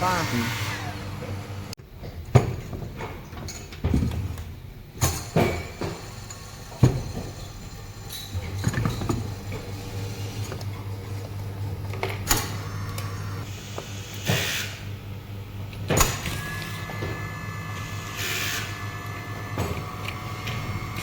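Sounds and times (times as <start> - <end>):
waste disposer motor humming: 0.0 - 1.8, 5.6 - 21.0.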